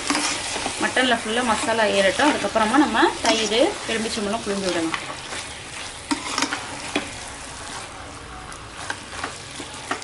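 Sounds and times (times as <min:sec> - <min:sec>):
meat sizzling in masala: 0:00.0 - 0:10.0.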